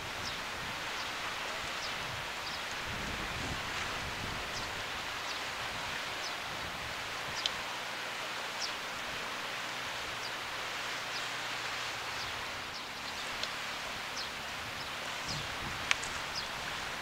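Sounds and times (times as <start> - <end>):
outdoor ambient hiss: 0.0 - 17.0.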